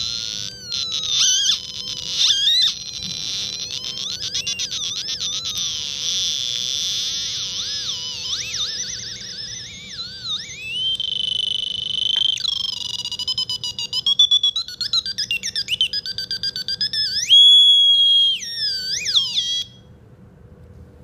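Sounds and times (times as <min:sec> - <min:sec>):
piezo buzzer squealing tones: 0:00.0 - 0:19.9.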